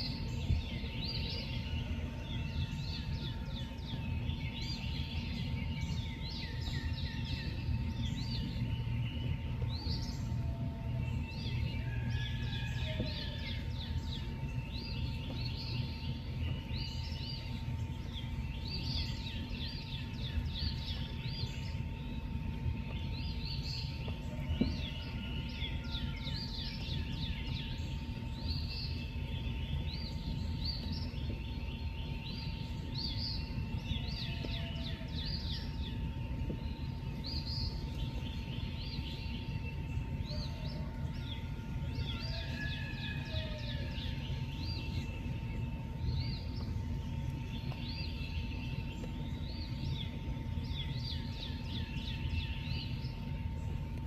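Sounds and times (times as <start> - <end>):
birds chirping and singing: 0.0 - 54.0
low outdoor rumble: 0.0 - 54.0.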